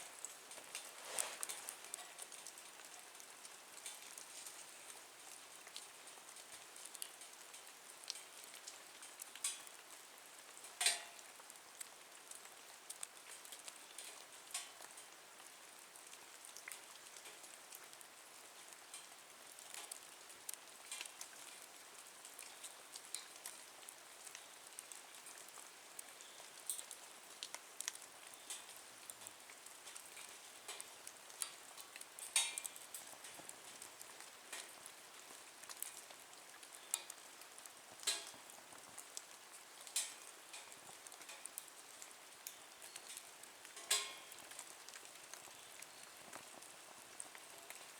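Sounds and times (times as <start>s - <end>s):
wood fire crackling and popping: 0.0s - 9.9s, 10.5s - 15.2s, 18.6s - 21.7s, 22.4s - 47.9s.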